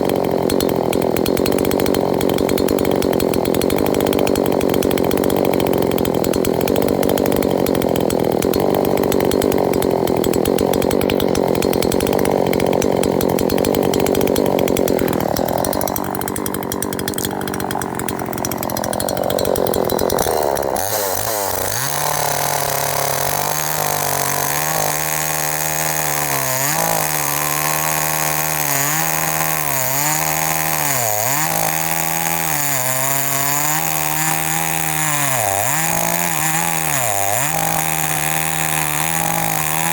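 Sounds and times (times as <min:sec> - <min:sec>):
chainsaw running hard: 0:00.0 - 0:39.9.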